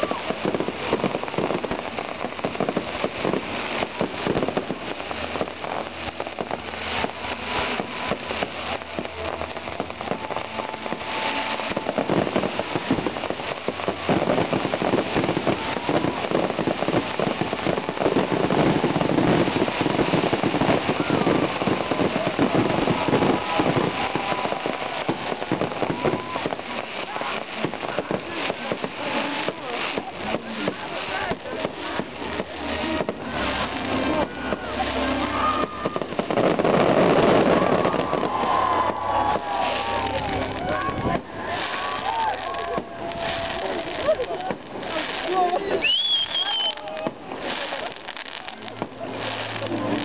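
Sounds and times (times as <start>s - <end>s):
fireworks crackling and popping: 0.0s - 50.0s.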